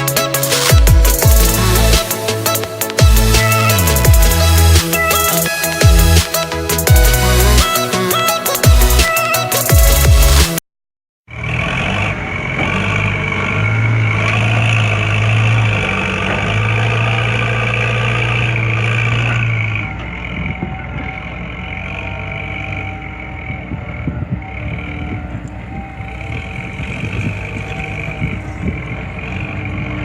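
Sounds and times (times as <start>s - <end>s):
simulated engine drone: 0.0s - 10.4s, 11.3s - 30.0s.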